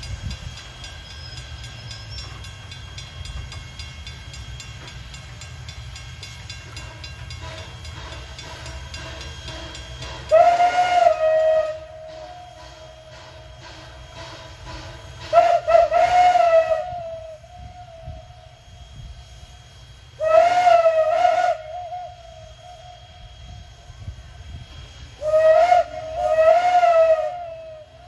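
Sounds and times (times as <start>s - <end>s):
faint steady whistle tone: 0.0s - 28.0s
steam locomotive whistle blasts: 0.0s - 28.0s.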